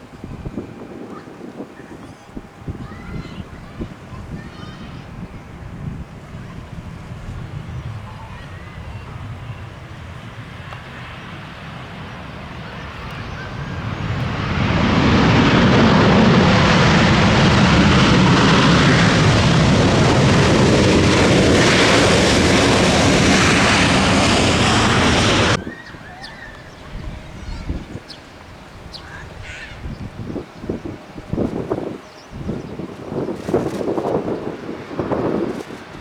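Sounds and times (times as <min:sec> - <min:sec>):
jet engines passing close: 0:00.0 - 0:36.0.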